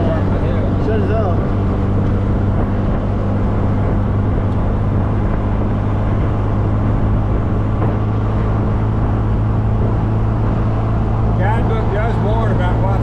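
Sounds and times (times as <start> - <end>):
car engine cruising: 0.0 - 13.0
wind and road noise: 0.0 - 13.0.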